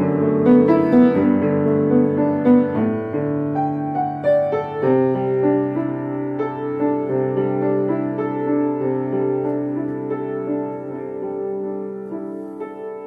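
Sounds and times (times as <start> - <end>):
slow piano piece: 0.0 - 13.0.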